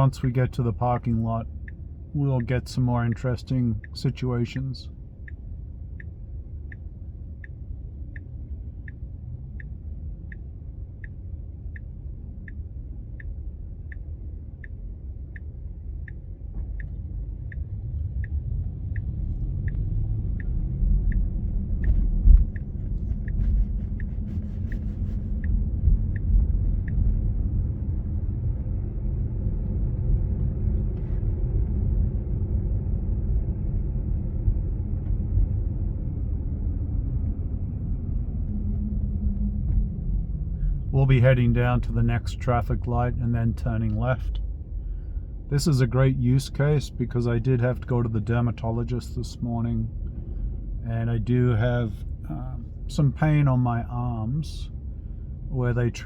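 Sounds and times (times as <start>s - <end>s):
turn signal ticking: 0.0s - 56.0s.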